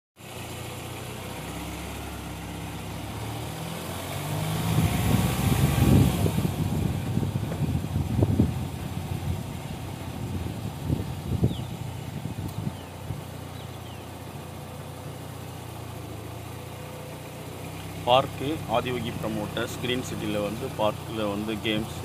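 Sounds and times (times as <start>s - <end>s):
vehicle engine running: 0.2s - 22.0s
uneven low rumbling: 1.6s - 22.0s.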